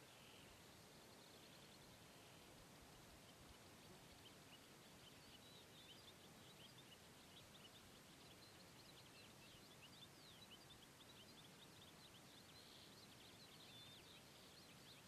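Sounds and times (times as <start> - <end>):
faint hiss: 0.0 - 15.0
small birds chirping: 0.0 - 15.0.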